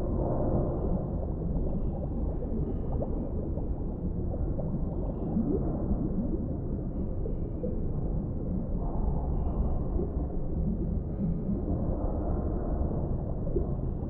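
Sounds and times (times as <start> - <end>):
low underwater rumble: 0.0 - 14.0.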